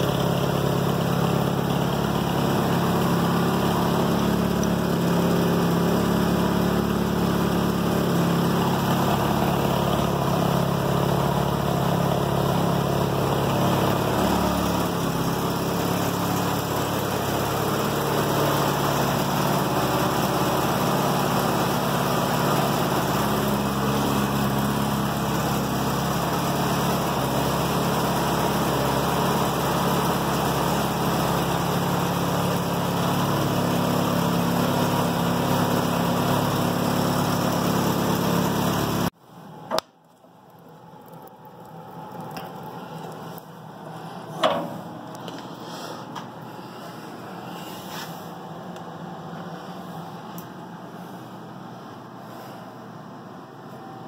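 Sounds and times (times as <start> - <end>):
truck engine idling: 0.0 - 39.1, 40.7 - 53.5.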